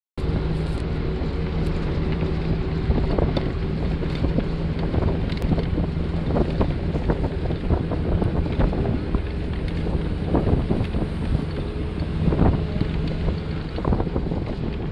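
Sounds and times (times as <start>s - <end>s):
road noise: 0.2s - 14.9s
vehicle engine hum: 0.2s - 14.9s
wind buffeting microphone: 0.2s - 14.9s.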